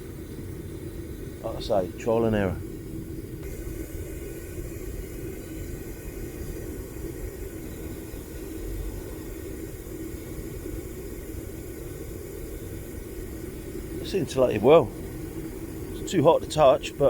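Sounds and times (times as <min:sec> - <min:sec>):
furnace burner rumbling: 0:00.0 - 0:17.0.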